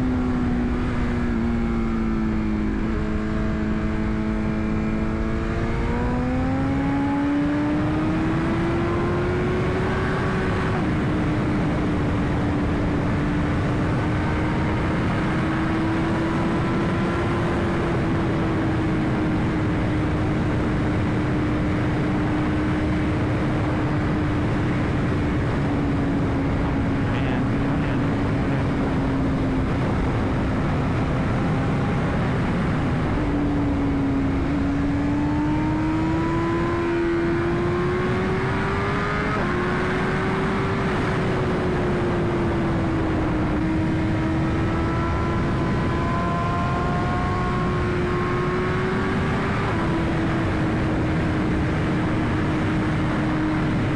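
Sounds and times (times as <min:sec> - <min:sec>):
motorcycle engine revving: 0:00.0 - 0:53.9
wind rush on microphone: 0:00.0 - 0:53.9.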